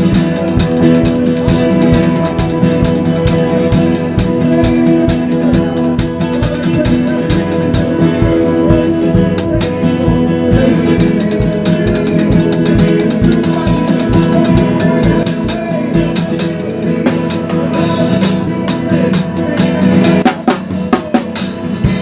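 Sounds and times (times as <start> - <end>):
band playing: 0.0 - 22.0
drum kit beat: 0.0 - 22.0.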